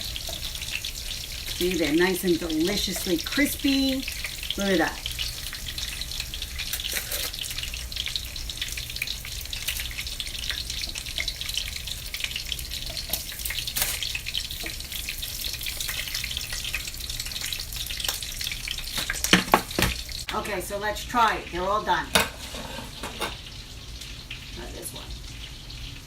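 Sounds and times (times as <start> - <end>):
chicken frying in hot oil: 0.0 - 26.0.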